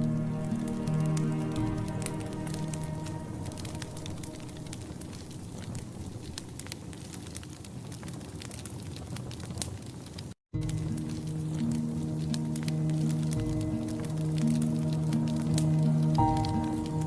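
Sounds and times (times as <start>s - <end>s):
fire hissing: 0.0s - 17.0s
wood fire crackling and popping: 0.0s - 17.0s.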